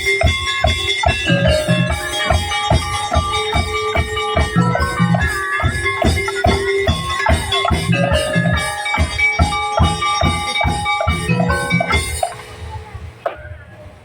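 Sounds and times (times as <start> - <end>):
pitched melody line: 0.0 - 13.8
percussion ensemble drumming: 0.0 - 13.9.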